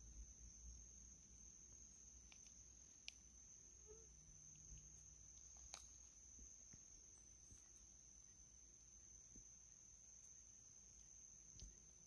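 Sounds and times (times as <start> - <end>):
high-pitched cricket trill: 0.0 - 12.0.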